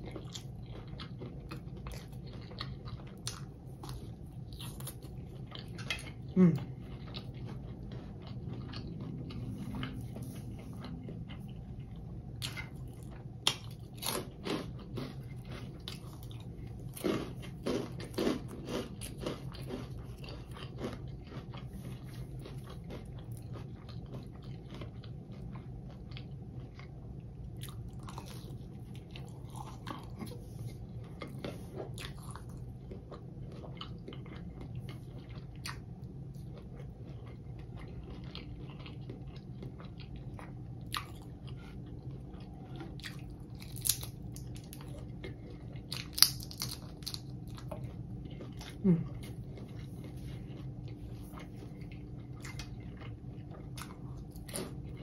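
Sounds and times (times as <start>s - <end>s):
crunching and chewing food: 0.0s - 55.0s
steady low hum: 0.0s - 55.0s.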